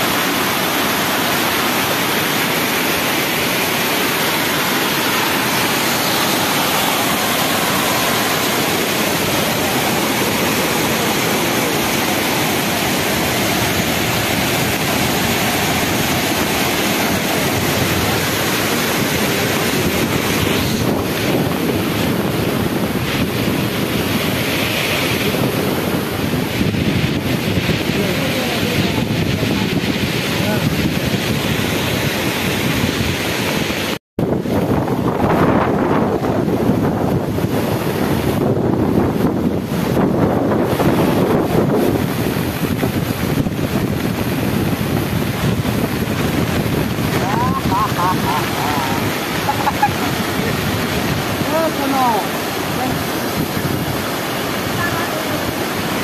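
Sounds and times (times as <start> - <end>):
floodwater rushing over rocks: 0.0 - 56.0
wind buffeting microphone: 3.8 - 56.0.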